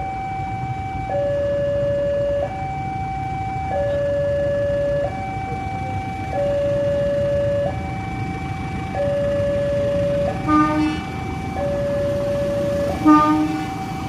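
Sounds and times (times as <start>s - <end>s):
two-tone warning siren: 0.0s - 14.0s.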